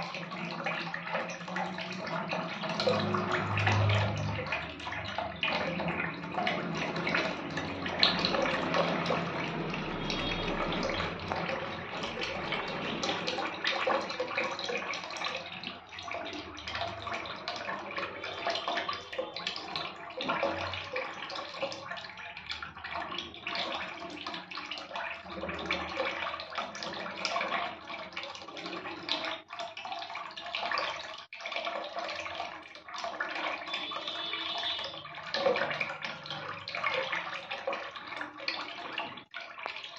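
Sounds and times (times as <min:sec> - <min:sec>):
small splashes and drips: 0:00.0 - 0:39.9
water sloshing in a tub: 0:00.0 - 0:39.9.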